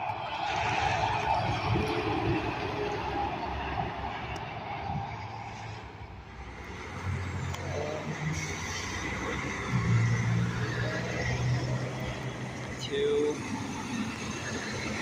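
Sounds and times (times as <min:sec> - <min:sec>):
road and tyre noise: 0:00.0 - 0:15.0
truck diesel engine: 0:00.0 - 0:15.0.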